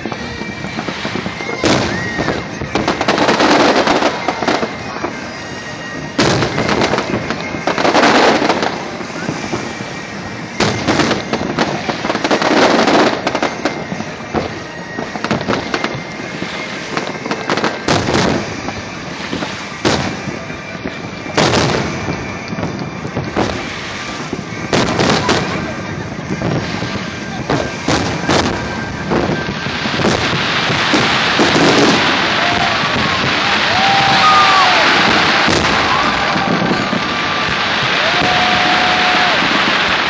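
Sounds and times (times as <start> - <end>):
fireworks booming: 0.0 - 40.0
fireworks crackle and hiss: 0.0 - 40.0.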